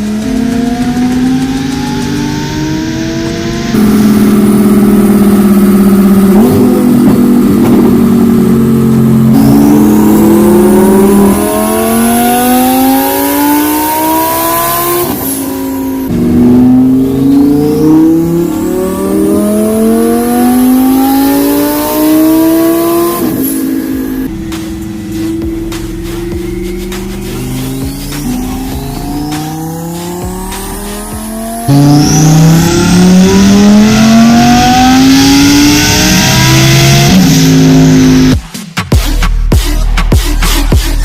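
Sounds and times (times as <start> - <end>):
car engine revving on a dyno: 0.0 - 38.4
sharp exhaust burst: 0.0 - 38.4.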